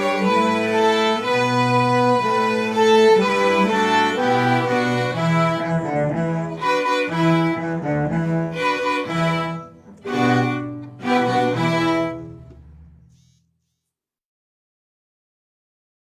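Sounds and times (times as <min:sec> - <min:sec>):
orchestra strings playing chords: 0:00.0 - 0:13.2.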